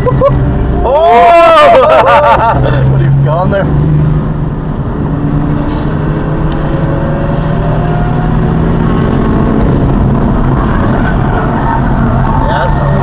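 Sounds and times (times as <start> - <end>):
car engine accelerating: 0.0 - 13.0
tyre and road noise: 0.0 - 13.0.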